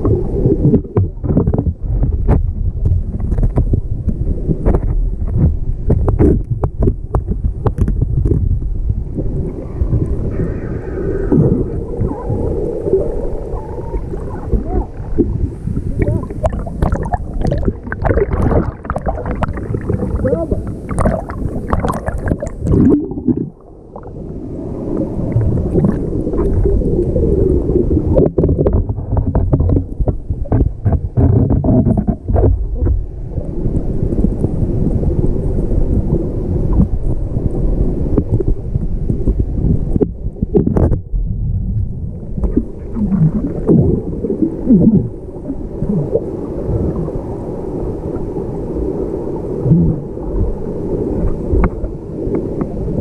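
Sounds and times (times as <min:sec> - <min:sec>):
bubbling crackles: 0:00.0 - 0:36.1, 0:36.7 - 0:47.4
underwater churning waterfall rumble: 0:00.0 - 0:53.0.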